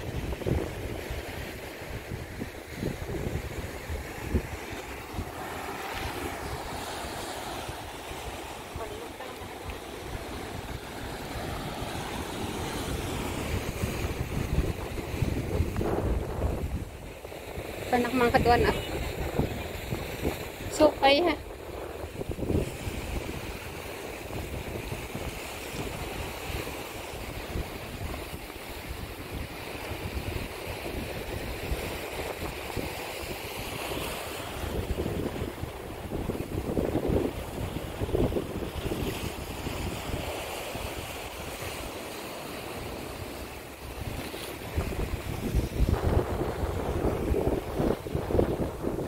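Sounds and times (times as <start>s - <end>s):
waves breaking over rocks: 0.0s - 49.0s
wind buffeting microphone: 0.0s - 49.0s.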